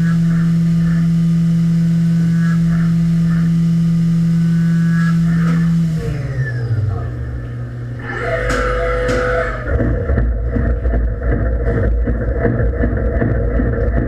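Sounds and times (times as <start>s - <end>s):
milling machine spindle humming: 0.0s - 14.0s.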